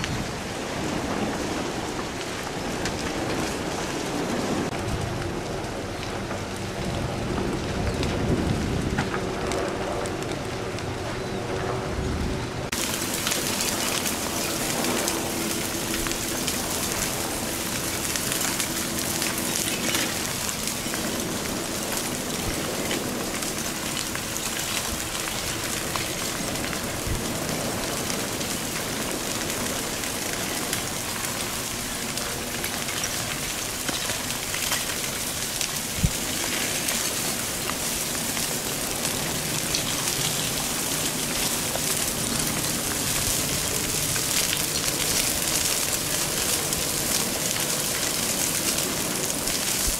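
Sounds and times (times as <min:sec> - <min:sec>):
lava crust crackling and clinking: 0:00.0 - 0:49.9.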